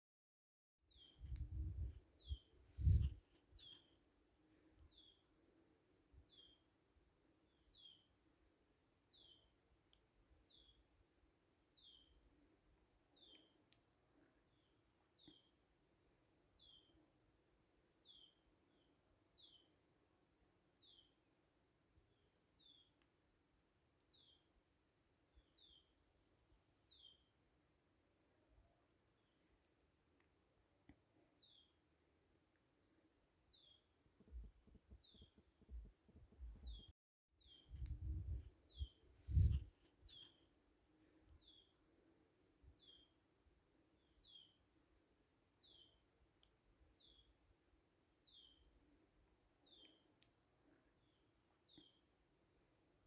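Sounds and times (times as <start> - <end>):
small songbird chirping: 0.9 - 13.8, 14.5 - 53.0.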